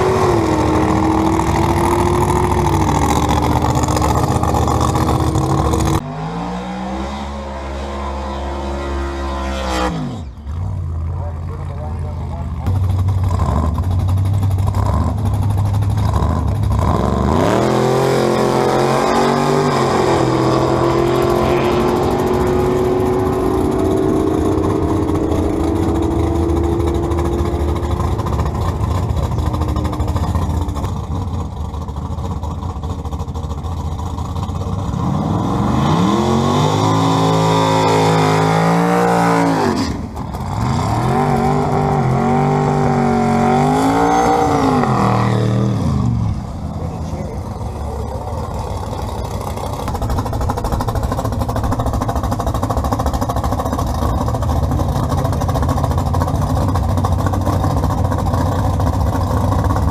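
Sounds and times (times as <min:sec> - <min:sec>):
second drag car burnout revving: 0:00.0 - 0:31.6, 0:34.0 - 0:59.9
drag car engine revving: 0:00.0 - 0:59.9.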